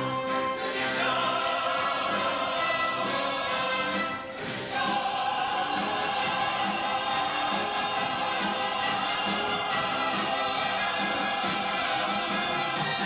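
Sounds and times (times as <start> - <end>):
chorus singing: 0.0 - 13.0.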